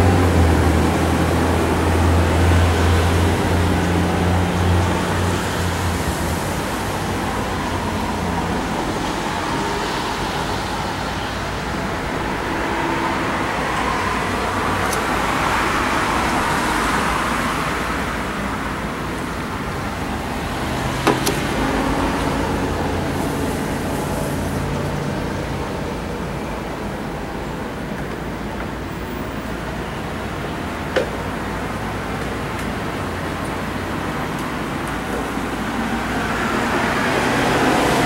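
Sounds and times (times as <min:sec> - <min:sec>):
passing car: 0:00.0 - 0:38.0.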